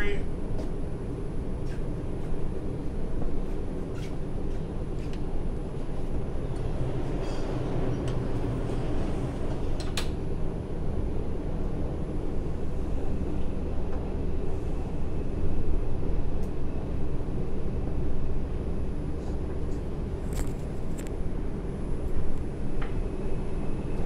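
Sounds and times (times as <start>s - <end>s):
subway car wheels and motors rumbling: 0.0s - 24.0s.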